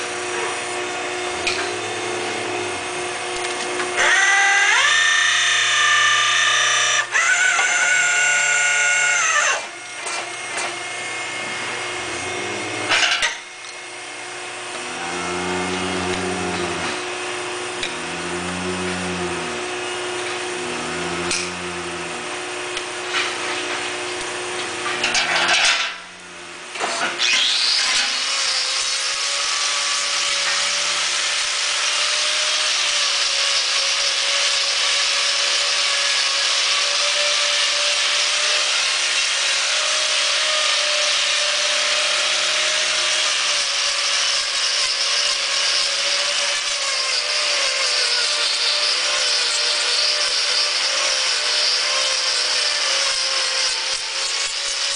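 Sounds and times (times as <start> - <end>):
small electric motor whine: 0.0 - 54.9.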